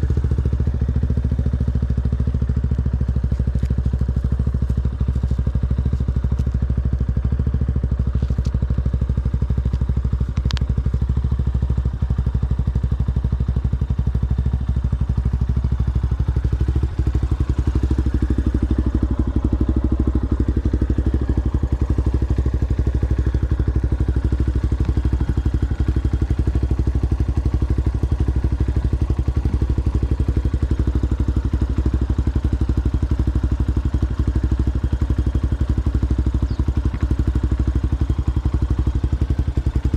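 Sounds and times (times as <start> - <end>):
motorcycle engine off road: 0.0 - 39.9.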